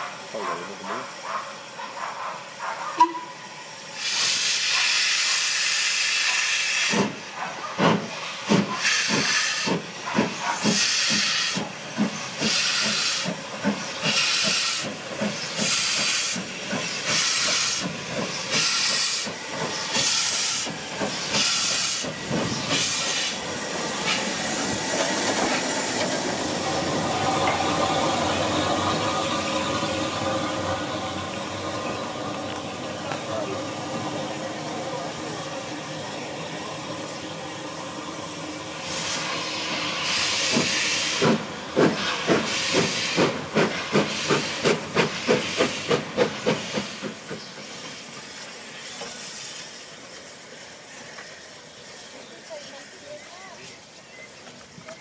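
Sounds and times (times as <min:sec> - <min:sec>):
steam hissing: 0:00.0 - 0:54.9
steam locomotive exhaust beats: 0:03.0 - 0:35.4, 0:36.1 - 0:52.1.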